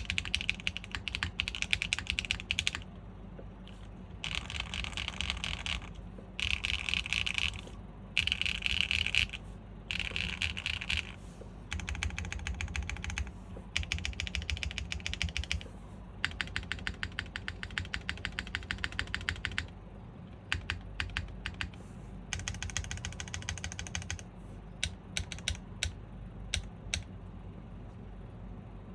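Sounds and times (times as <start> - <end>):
mechanical keyboard typing: 0.0 - 2.9, 4.2 - 19.7, 20.3 - 27.1.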